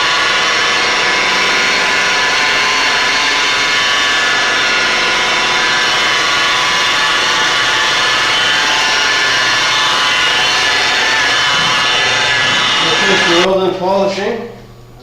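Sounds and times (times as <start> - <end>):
electric polishing buffer whine: 0.0 - 13.5.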